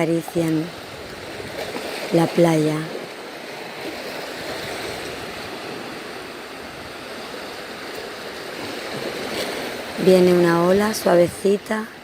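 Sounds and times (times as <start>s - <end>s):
waves washing onto beach: 0.0s - 12.0s.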